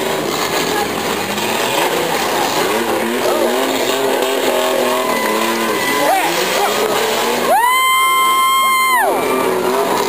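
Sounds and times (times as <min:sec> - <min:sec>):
car engines revving: 0:00.0 - 0:10.0
crowd din: 0:00.0 - 0:10.0.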